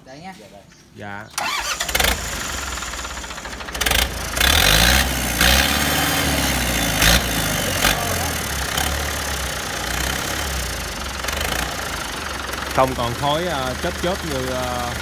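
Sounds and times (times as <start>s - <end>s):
tractor diesel engine revving: 1.3s - 15.0s.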